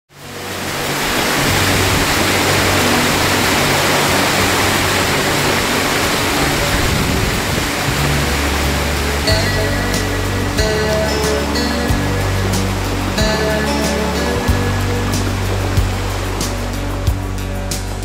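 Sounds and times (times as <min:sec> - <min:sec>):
river water rushing: 0:00.1 - 0:18.0.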